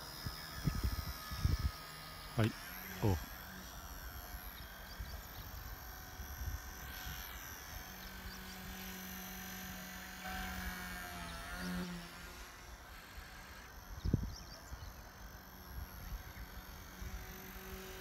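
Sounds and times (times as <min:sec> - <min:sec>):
toy helicopter rotor whine: 0:00.0 - 0:18.0.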